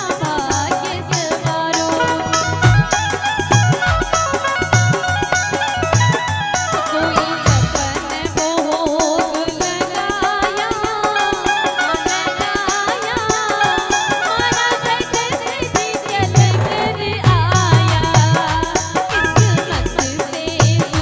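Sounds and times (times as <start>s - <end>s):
woman singing through microphone: 0.0s - 3.4s, 6.8s - 21.0s
hand percussion beat: 0.0s - 21.0s
instrumental accompaniment: 0.0s - 21.0s.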